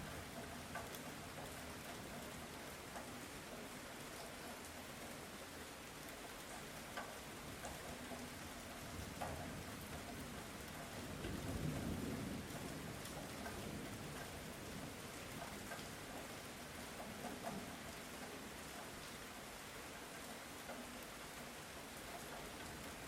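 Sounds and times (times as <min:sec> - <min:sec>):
light rain pattering: 0:00.0 - 0:23.0.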